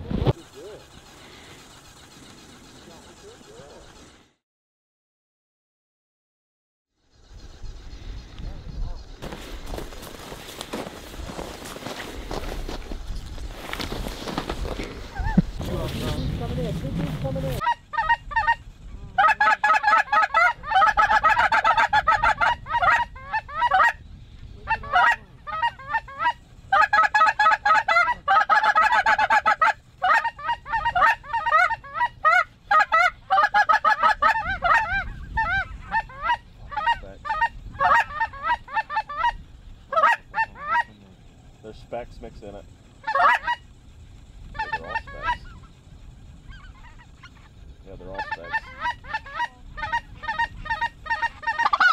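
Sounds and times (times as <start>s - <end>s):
geese honking: 0.2s - 4.2s, 7.9s - 51.9s.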